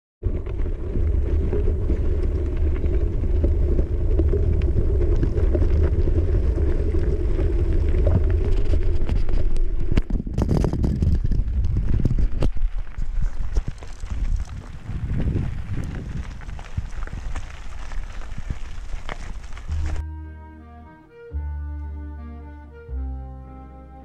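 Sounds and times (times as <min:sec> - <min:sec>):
bike tyres rolling on gravel: 0:00.2 - 0:20.0
wind buffeting microphone: 0:00.2 - 0:20.0.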